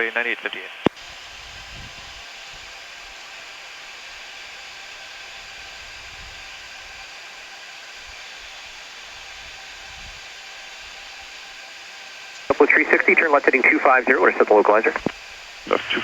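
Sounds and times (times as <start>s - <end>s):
aircraft cockpit hiss: 0.0s - 16.0s.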